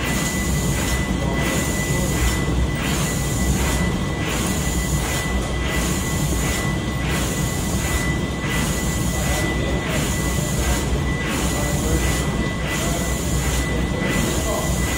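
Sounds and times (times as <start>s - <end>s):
thin high whine: 0.0s - 14.9s.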